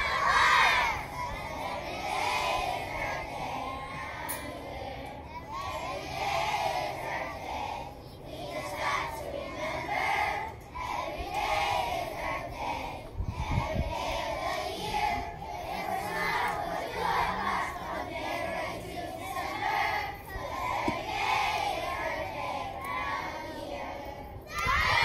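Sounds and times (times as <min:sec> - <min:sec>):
children singing in unison: 0:00.0 - 0:25.0.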